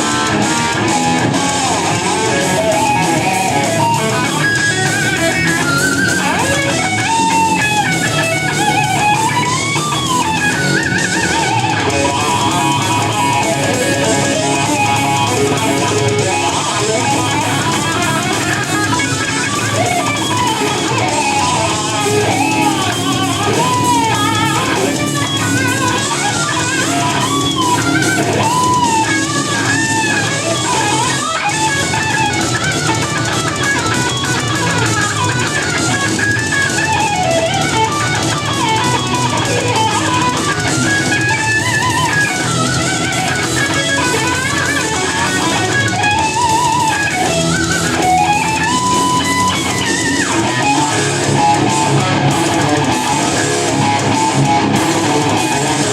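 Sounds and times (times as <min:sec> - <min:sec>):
bass guitar: 0:00.0 - 0:55.9
drums: 0:00.0 - 0:55.9
electric guitar lead melody: 0:00.0 - 0:55.9.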